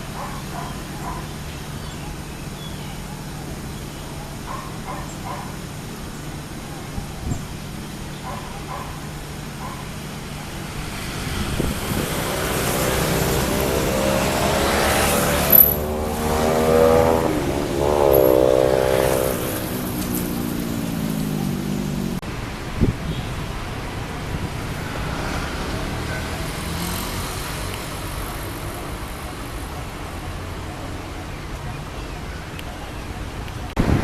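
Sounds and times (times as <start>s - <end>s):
engine passing by: 3.1s - 22.5s, 23.3s - 31.3s.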